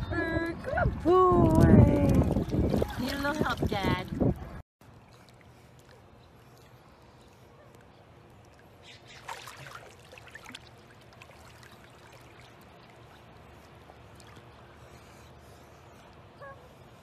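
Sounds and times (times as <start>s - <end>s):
pool water splashing: 1.3s - 4.0s, 4.8s - 16.7s.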